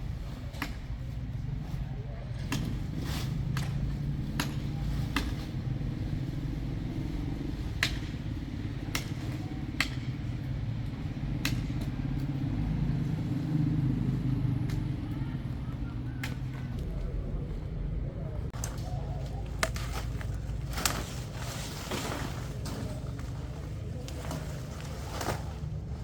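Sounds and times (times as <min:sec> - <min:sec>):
large engine humming: 0:00.0 - 0:26.0.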